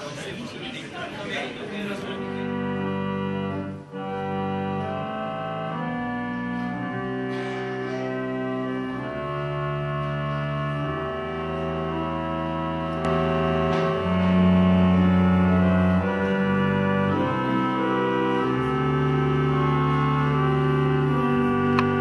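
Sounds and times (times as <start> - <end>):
slow organ chords: 2.1 - 22.0.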